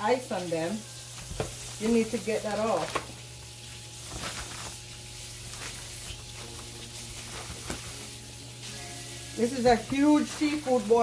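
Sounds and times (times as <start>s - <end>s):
plastic bag rustling and crinkling: 0.9s - 11.0s.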